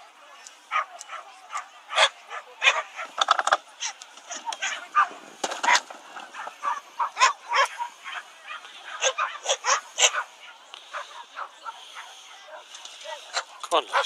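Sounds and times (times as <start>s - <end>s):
dog barking: 0.7s - 14.0s.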